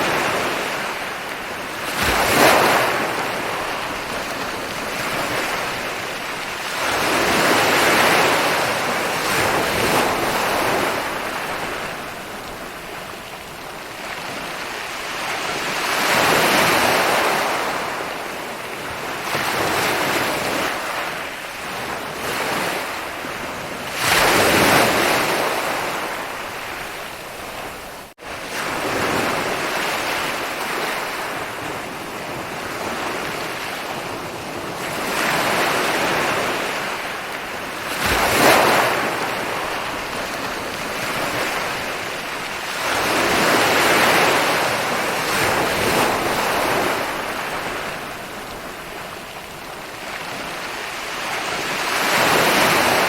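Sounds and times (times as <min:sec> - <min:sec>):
ocean surf breaking on beach: 0:00.0 - 0:53.0.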